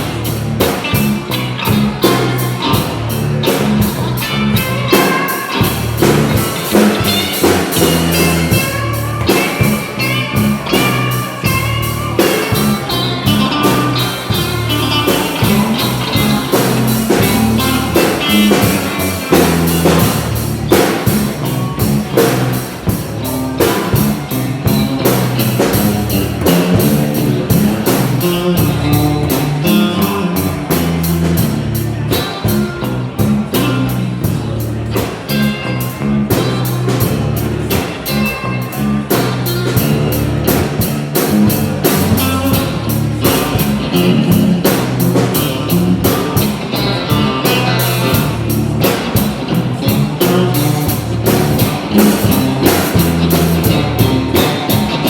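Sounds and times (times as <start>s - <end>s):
blues-rock guitar lead: 0.0s - 55.0s
drums: 0.0s - 55.0s
low bass line: 0.0s - 55.0s.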